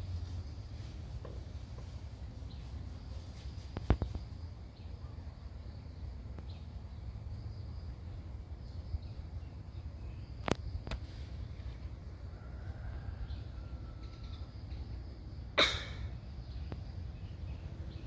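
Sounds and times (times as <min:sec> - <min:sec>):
faint insect chirring: 0:00.0 - 0:18.0.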